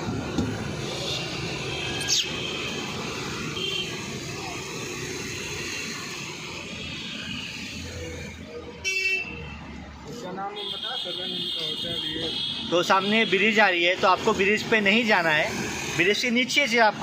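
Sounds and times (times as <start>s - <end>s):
road and traffic noise: 0.0s - 17.0s.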